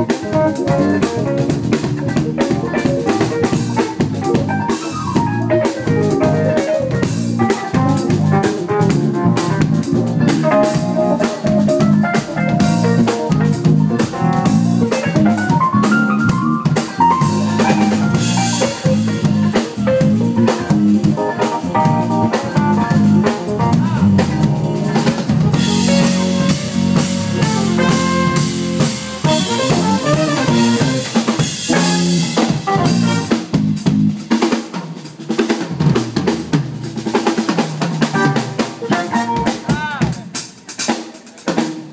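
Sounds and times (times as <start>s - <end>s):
drum kit beat: 0.0s - 41.9s
funk band playing live: 0.0s - 41.9s.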